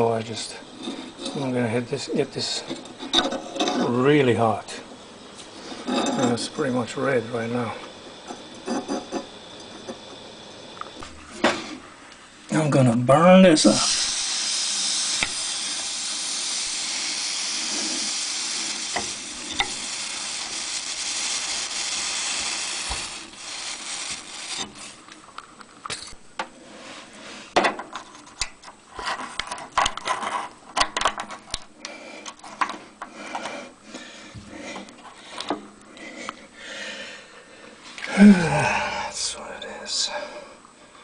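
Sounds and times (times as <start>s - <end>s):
steady hiss: 0.0s - 27.6s, 31.6s - 41.0s.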